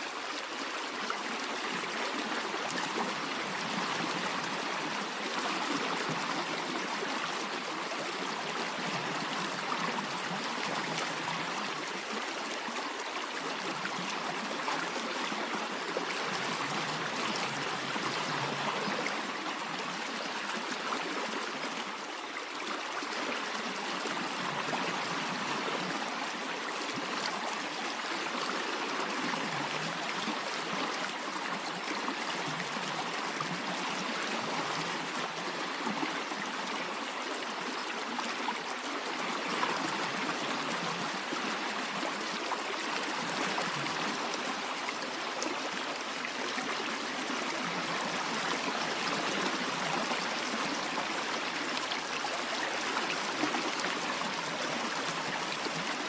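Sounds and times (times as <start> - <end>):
stream rushing and trickling: 0.0 - 56.0.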